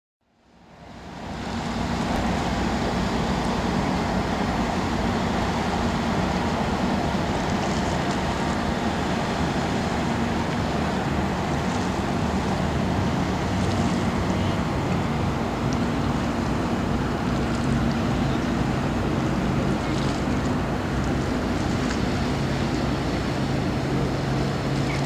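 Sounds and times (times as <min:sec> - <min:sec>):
ferry engines droning: 0:00.4 - 0:25.0
water wash rushing: 0:00.5 - 0:25.0.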